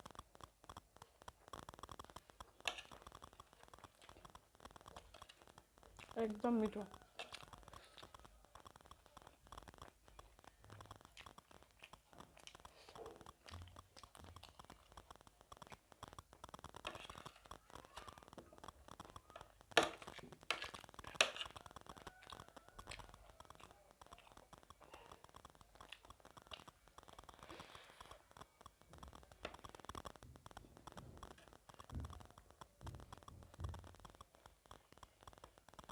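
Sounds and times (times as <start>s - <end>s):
chewing crunchy snack: 0.0s - 35.9s
sharp clicks: 0.0s - 35.9s.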